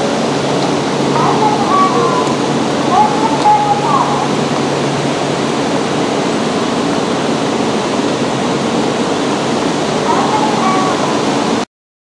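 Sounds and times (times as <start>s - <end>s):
train ventilation rushing noise: 0.0s - 11.6s.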